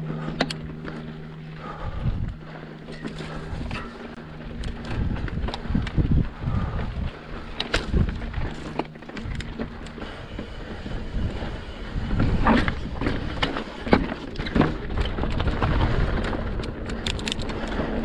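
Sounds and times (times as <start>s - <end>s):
low steady hum: 0.0s - 18.0s
steady rushing noise: 0.0s - 18.0s
bike rattling over rocks: 2.9s - 18.0s.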